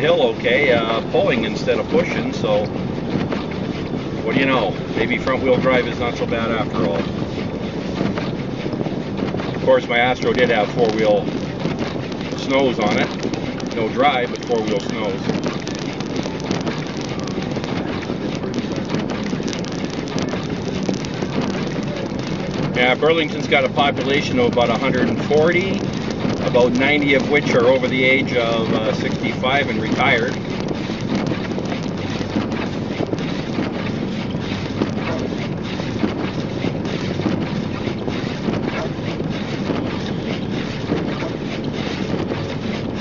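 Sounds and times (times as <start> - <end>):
car engine: 0.0 - 43.0
tyre and road noise: 0.0 - 43.0.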